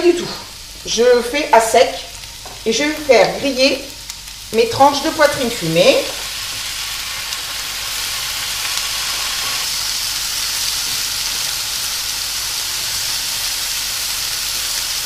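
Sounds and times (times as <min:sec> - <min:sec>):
pork sizzling in frying pan: 0:00.0 - 0:15.0.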